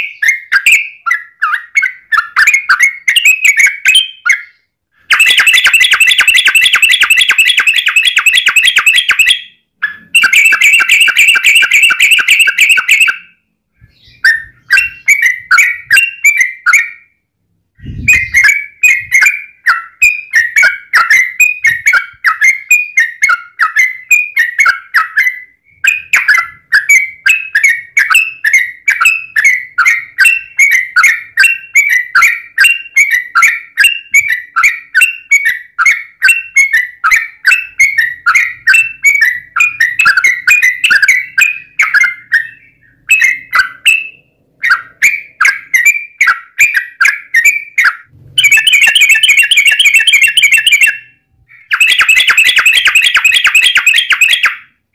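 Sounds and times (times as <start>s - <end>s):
bird singing chirpy notes: 0.0s - 54.8s.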